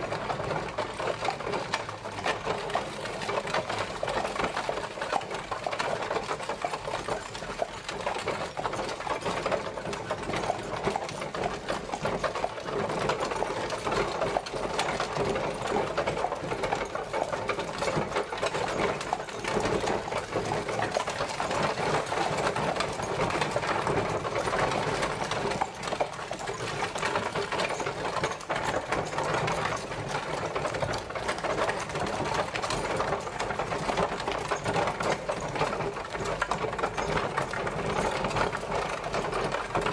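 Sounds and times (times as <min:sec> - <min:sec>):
horse-drawn carriage rattling: 0:00.0 - 0:39.9.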